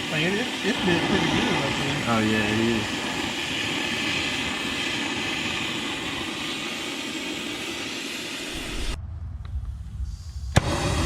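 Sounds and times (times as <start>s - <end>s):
cutting torch flame hissing: 0.0s - 9.0s, 10.6s - 11.0s.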